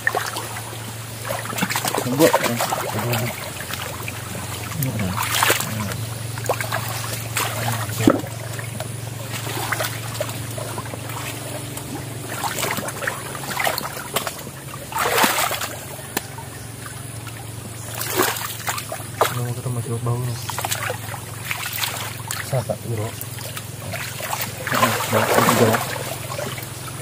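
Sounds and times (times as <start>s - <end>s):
low hum: 0.0s - 27.0s
muddy water sloshing and splashing: 0.0s - 27.0s
sharp splashes: 0.0s - 27.0s.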